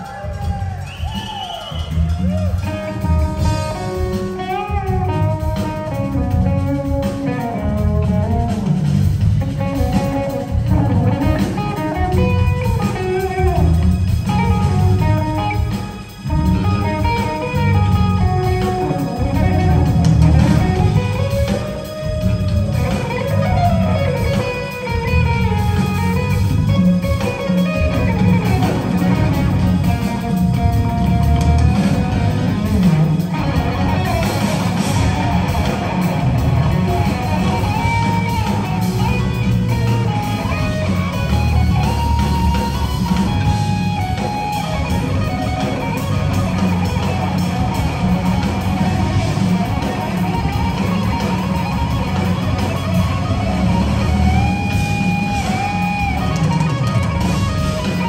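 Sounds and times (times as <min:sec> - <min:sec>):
electric guitar lead line: 0:00.0 - 0:58.0
jazz fusion band playing: 0:00.0 - 0:58.0.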